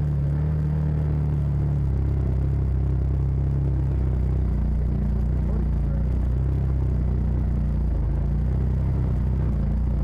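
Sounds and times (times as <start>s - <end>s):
utility vehicle engine humming: 0.0s - 10.0s.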